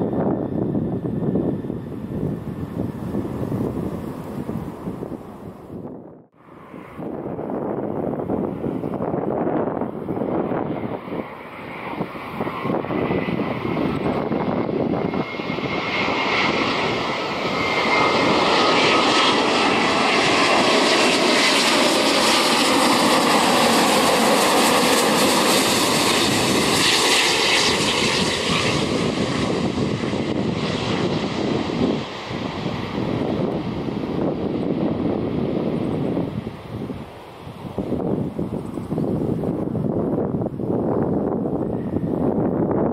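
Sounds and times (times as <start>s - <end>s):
jet airliner roar with high whine: 0.0s - 42.9s.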